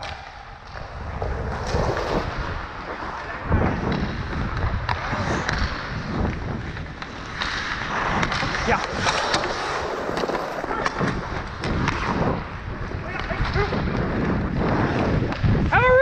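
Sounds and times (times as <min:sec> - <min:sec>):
skates scraping on ice: 0:00.0 - 0:16.0
wind buffeting microphone: 0:00.0 - 0:16.0.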